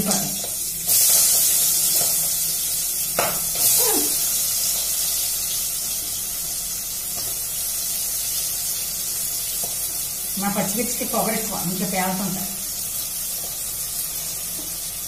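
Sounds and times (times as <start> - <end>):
chillies sizzling in hot oil: 0.0 - 15.0.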